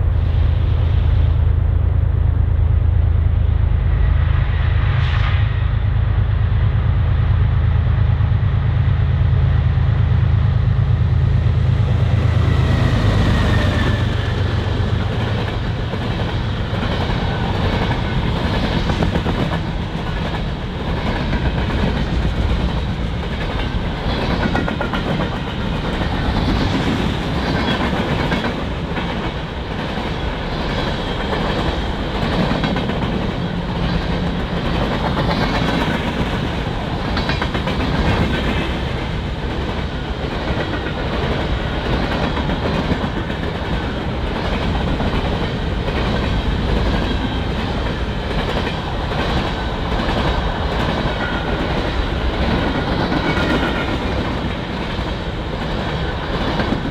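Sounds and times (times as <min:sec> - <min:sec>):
train wheels clacking on rails: 0:09.6 - 0:56.9.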